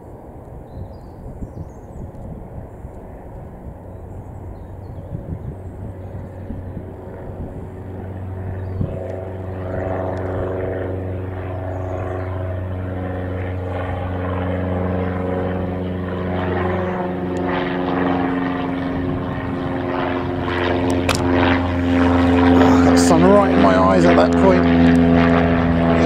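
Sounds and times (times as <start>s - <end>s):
light aircraft droning overhead: 0.0s - 26.0s.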